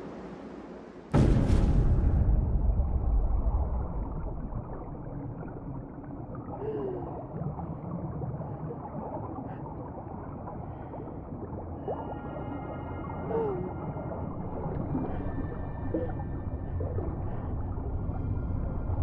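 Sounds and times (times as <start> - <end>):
low muffled underwater rumble: 1.2 - 19.0
gurgling bubbles: 3.0 - 19.0.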